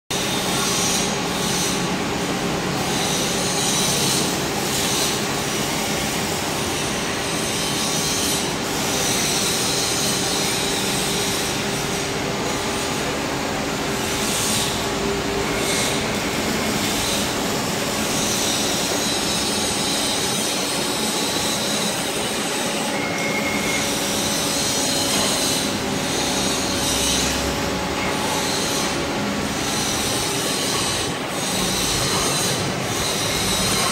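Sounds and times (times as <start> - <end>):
drilling machine whir and hiss: 0.1 - 33.9.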